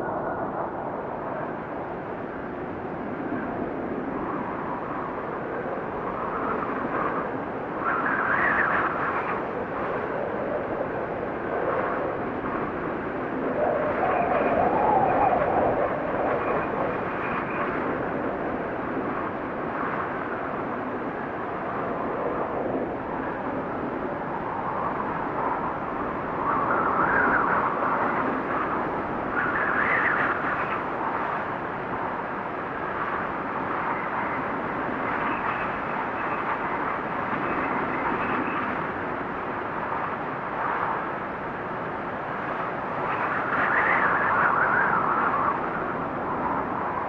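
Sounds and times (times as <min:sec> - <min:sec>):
blizzard wind whistling: 0:00.0 - 0:47.0.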